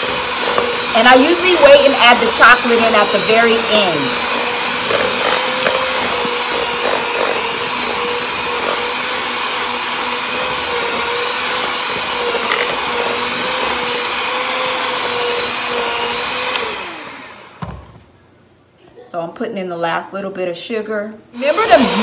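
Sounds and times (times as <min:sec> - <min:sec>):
electric hand mixer whirring: 0:00.0 - 0:17.6, 0:21.4 - 0:22.0.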